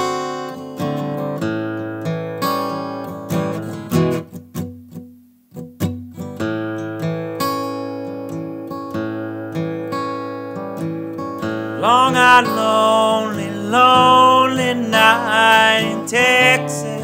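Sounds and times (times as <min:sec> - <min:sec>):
acoustic guitar strumming: 0:00.0 - 0:17.0
picked guitar notes: 0:00.0 - 0:17.0.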